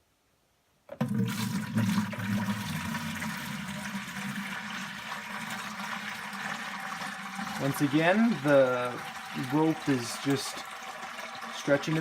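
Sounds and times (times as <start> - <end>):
water pouring into plastic bucket: 0.9 - 12.0.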